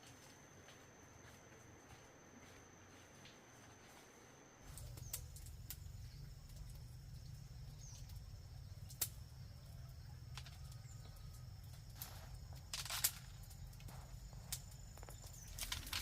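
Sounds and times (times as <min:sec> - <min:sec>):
high insect-like tone: 0:00.0 - 0:16.0.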